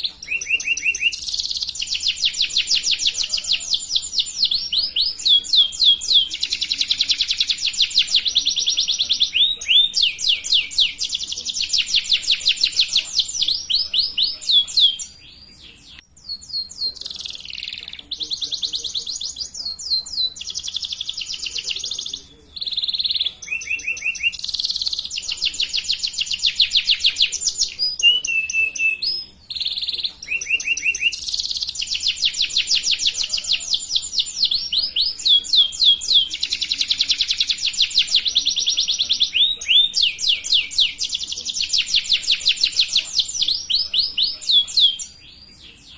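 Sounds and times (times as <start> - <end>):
canary singing rapid trills: 0.0 - 45.9.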